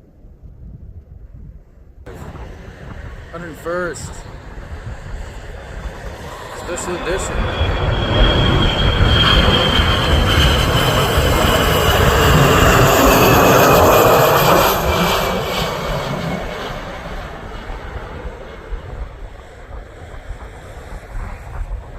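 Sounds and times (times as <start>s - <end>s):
jet engines passing: 2.1s - 21.9s.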